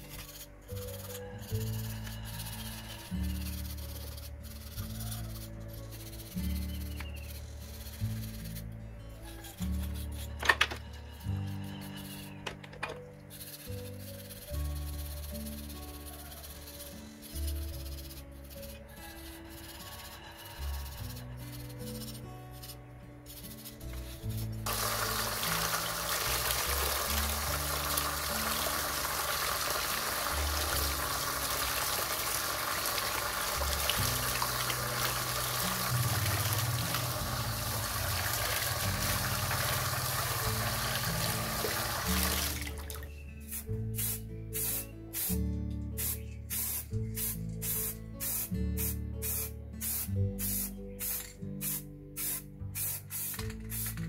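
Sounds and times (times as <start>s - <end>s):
spray-paint can hissing: 0.0s - 8.6s, 13.3s - 42.8s, 43.4s - 45.4s, 46.0s - 54.0s
background music: 0.0s - 54.0s.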